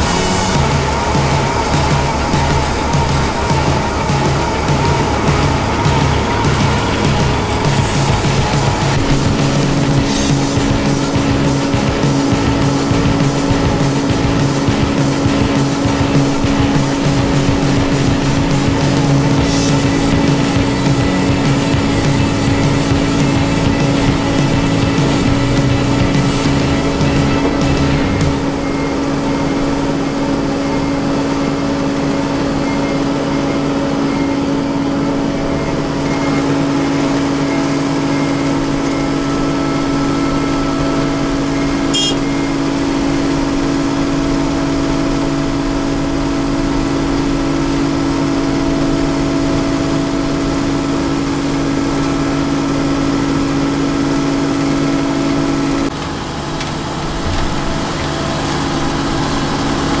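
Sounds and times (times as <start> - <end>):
diesel engine humming: 0.0 - 60.0.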